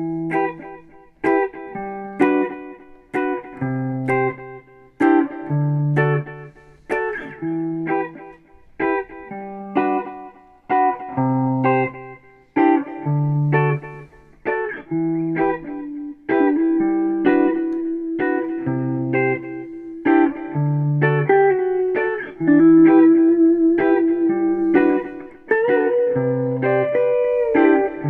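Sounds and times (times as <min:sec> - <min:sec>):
plucked guitar melody: 0:00.0 - 0:28.0.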